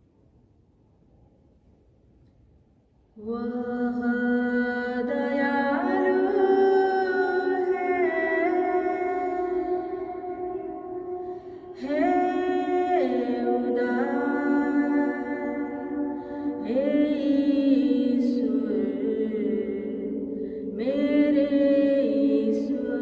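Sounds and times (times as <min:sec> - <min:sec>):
woman singing unaccompanied: 0:03.2 - 0:23.0.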